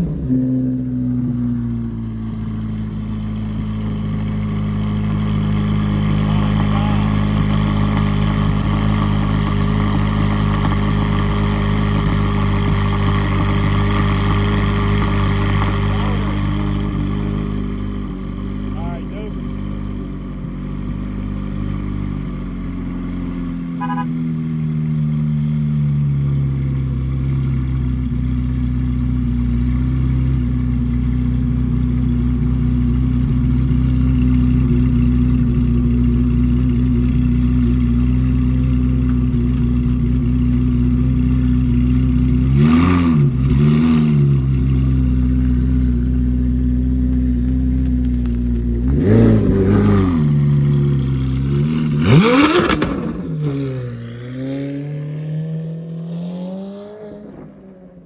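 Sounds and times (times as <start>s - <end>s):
car exhaust idling: 0.0s - 54.8s
engine throttle blips: 0.0s - 58.0s.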